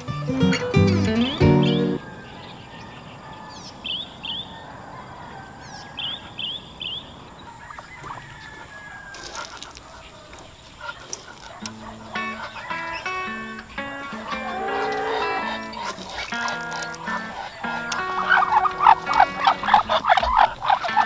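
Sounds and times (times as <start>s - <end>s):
birds chirping: 0.0s - 21.0s
steady outdoor hiss: 0.0s - 21.0s.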